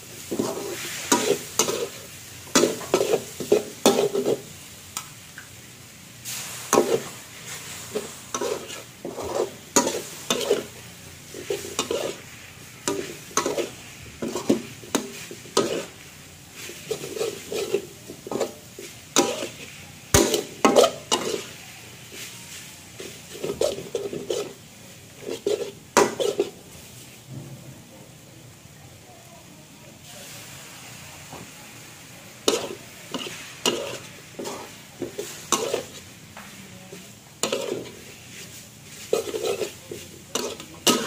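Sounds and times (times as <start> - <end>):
food sizzling: 0.0 - 41.0
metal spatula scraping a wok: 0.2 - 4.7, 6.2 - 27.2, 32.4 - 36.2, 36.9 - 41.0.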